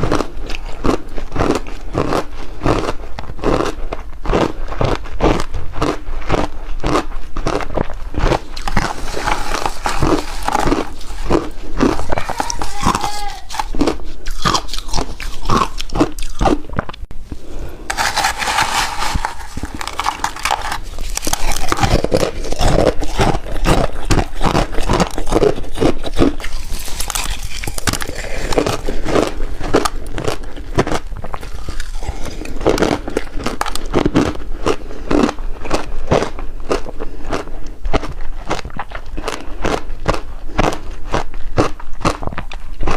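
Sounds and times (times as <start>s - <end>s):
chewing crunchy ice: 0.0s - 17.1s, 17.9s - 42.9s.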